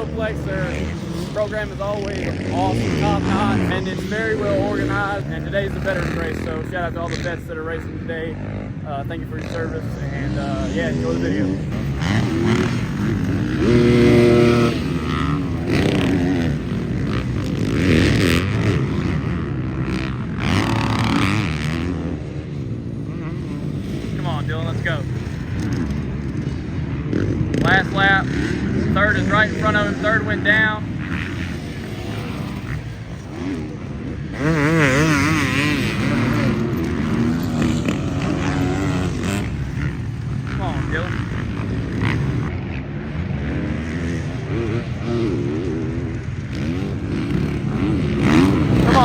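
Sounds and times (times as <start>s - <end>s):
dirt bike engines revving: 0.0s - 49.0s.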